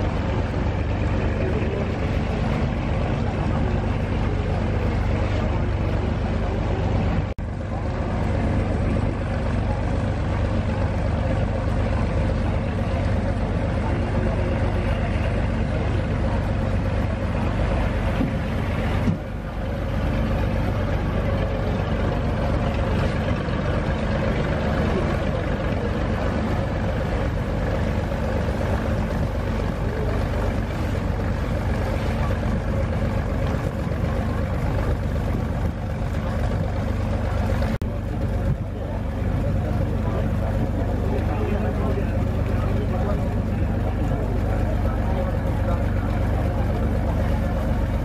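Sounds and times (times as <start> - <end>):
boat engine droning: 0.0 - 48.0
water noise: 0.0 - 48.0.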